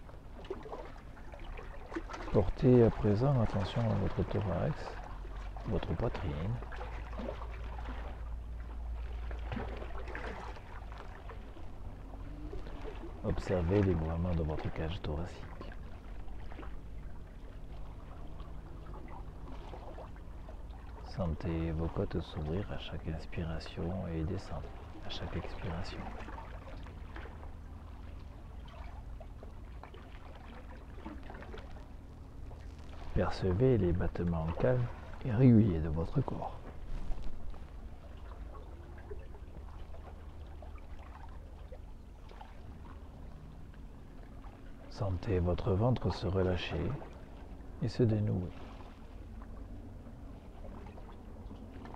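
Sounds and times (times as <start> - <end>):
small waves lapping at shore: 0.0 - 51.9
steady low hum: 0.0 - 51.9.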